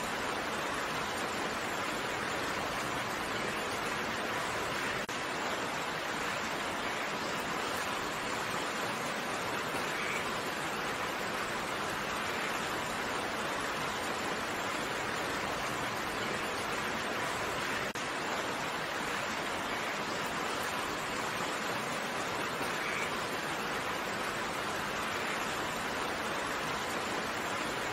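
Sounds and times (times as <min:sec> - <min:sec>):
steady rain hiss: 0:00.0 - 0:27.9.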